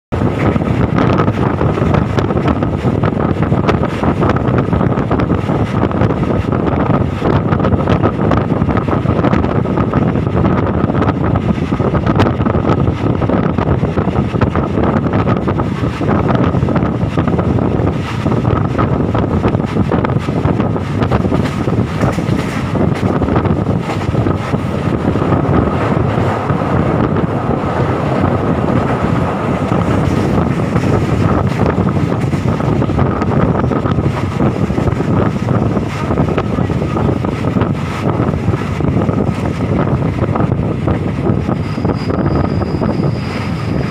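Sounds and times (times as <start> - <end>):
train wheels rumbling and clattering: 0.1 - 43.9
wind buffeting microphone: 0.1 - 43.9.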